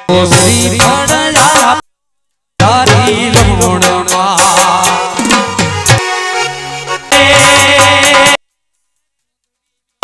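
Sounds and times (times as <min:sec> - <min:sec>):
instrumental devotional folk music: 0:00.0 - 0:09.8.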